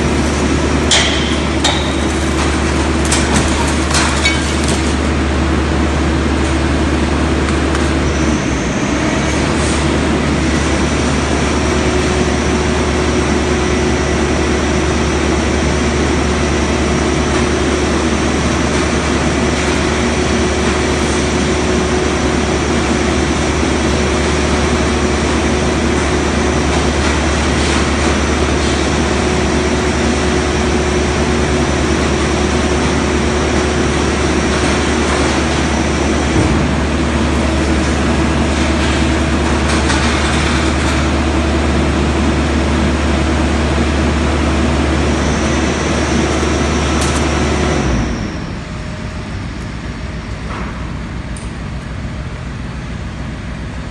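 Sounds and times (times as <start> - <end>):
hydraulic power unit humming: 0.0 - 53.9.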